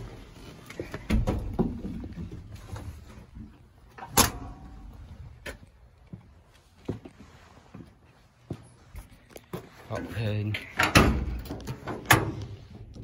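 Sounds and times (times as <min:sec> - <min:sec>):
handling and movement noise: 0:00.0 - 0:13.0.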